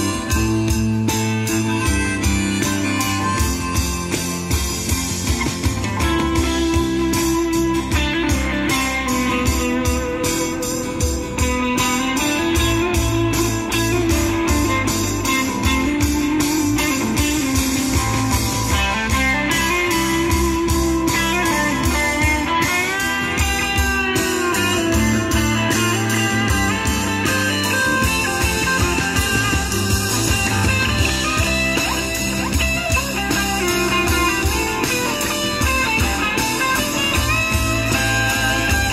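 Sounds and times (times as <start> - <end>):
bass: 0.0 - 38.9
guitars: 0.0 - 38.9
lead guitar line bending in pitch: 0.0 - 38.9
steady drum beat: 0.0 - 38.9.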